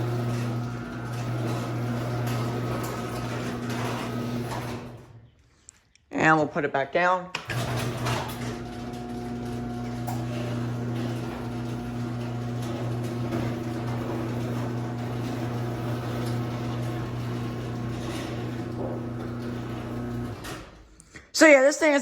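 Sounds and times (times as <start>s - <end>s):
garage door opener motor hum: 0.0s - 5.3s, 7.4s - 21.0s.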